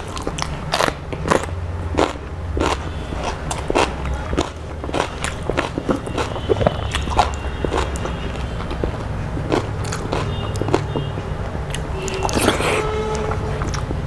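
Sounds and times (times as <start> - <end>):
close chewing with mouth smacks: 0.0 - 14.0.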